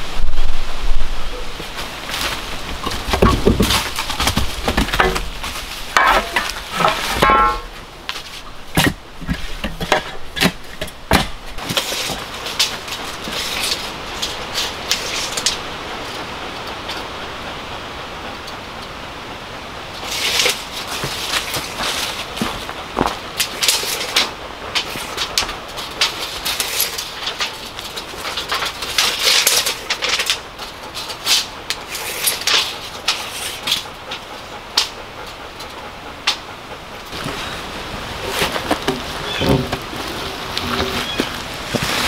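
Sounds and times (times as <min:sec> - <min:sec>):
dry leaves rustling: 0:00.0 - 0:18.6, 0:19.4 - 0:35.0, 0:36.8 - 0:42.0.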